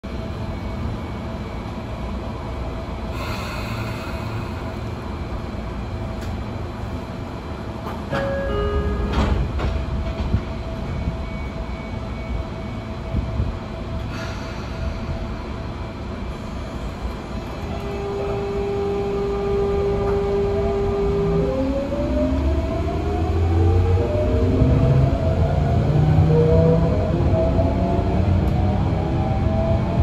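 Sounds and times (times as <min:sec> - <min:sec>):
train equipment hum: 0:00.0 - 0:30.0.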